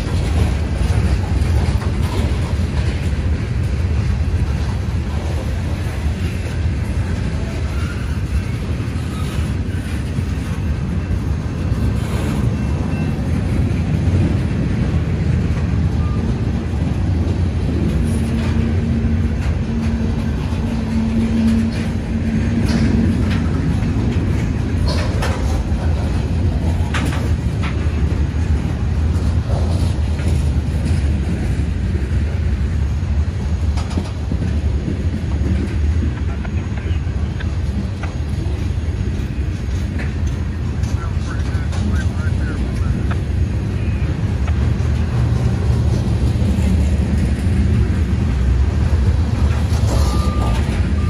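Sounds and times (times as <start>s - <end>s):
freight train rumble: 0.0s - 51.0s
wheels clacking on rails: 0.0s - 51.0s.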